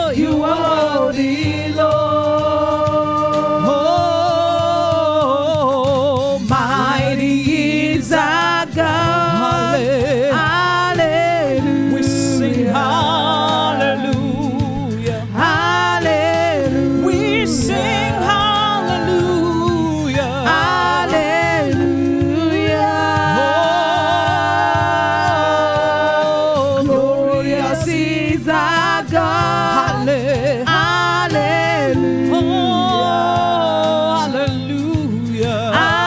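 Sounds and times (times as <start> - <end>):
gospel singers with vibrato: 0.0 - 36.0
sustained instrumental backing: 6.4 - 36.0.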